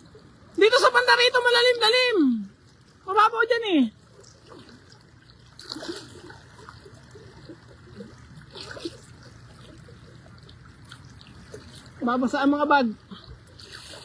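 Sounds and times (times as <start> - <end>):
floodwater trickling and sloshing: 0.0 - 14.0.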